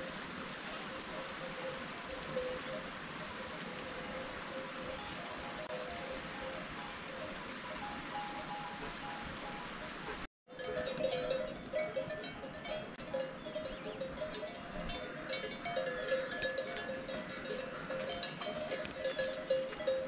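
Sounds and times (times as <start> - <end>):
livestock bells clanking: 1.1 - 2.8, 3.9 - 9.8, 10.5 - 20.0.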